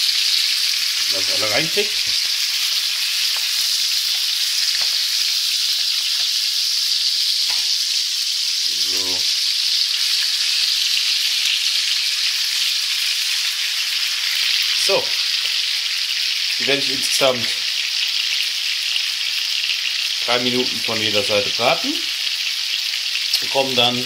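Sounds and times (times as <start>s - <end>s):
fish sizzling in a frying pan: 0.0s - 24.0s.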